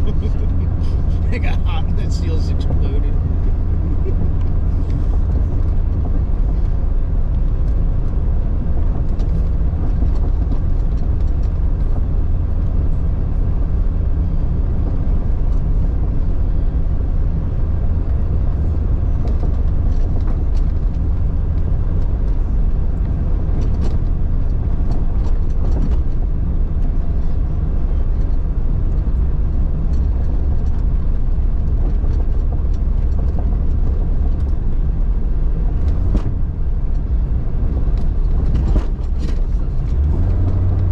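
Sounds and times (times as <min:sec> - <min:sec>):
engine and drivetrain rumble: 0:00.0 - 0:40.9.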